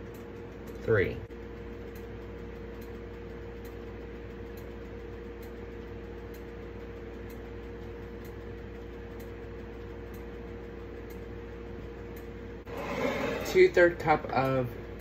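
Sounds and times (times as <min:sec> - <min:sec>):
faint repeating tick: 0:00.0 - 0:12.3
room hum with steady tones: 0:00.0 - 0:15.0.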